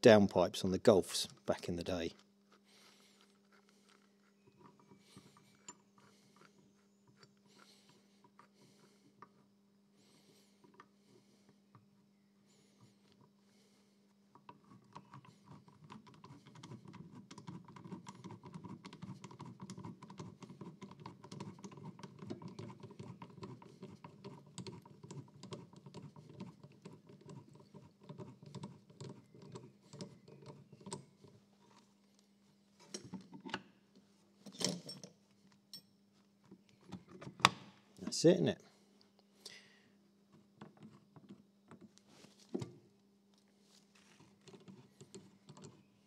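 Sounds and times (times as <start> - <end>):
faint metal clicking and scraping: 1.2 - 9.6, 10.6 - 12.0, 14.1 - 37.4, 40.3 - 46.0.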